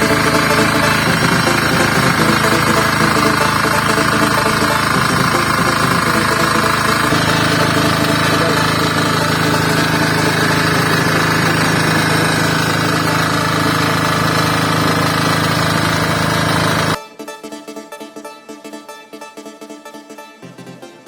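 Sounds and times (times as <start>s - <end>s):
diesel generator engine running: 0.0s - 17.0s.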